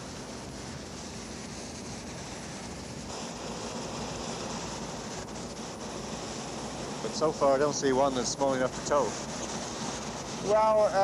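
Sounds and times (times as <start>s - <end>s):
sea hiss: 0.0s - 11.0s
wind: 0.0s - 11.0s.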